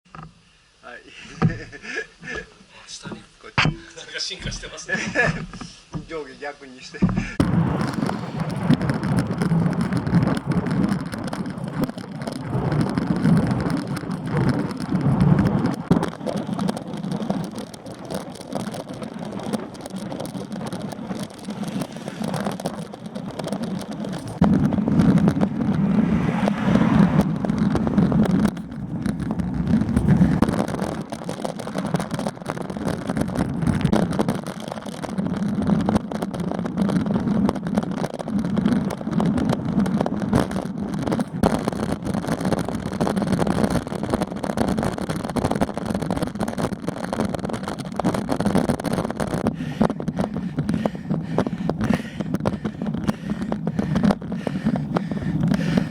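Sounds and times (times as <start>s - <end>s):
wind rumble on microphone: 7.0s - 55.9s.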